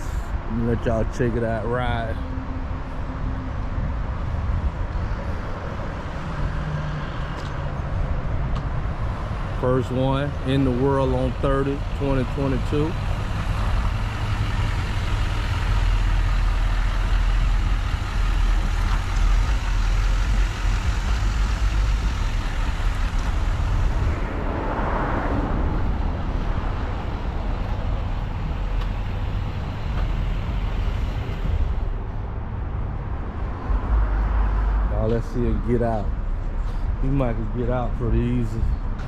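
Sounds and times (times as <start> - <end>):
pickup truck engine rumble: 0.0 - 39.0
road noise: 0.0 - 39.0.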